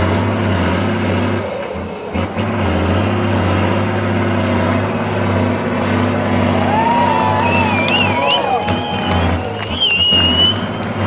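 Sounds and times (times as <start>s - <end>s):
diesel truck engine running hard: 0.0s - 11.0s.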